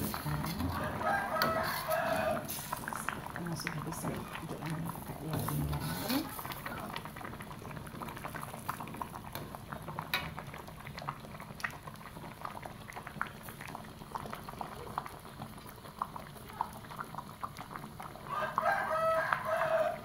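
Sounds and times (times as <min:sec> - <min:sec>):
curry bubbling in a pot: 0:00.0 - 0:20.0.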